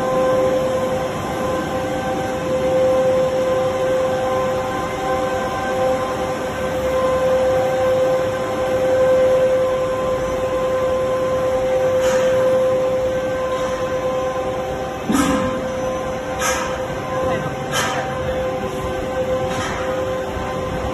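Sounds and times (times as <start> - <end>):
machine whining tone: 0.0 - 20.9.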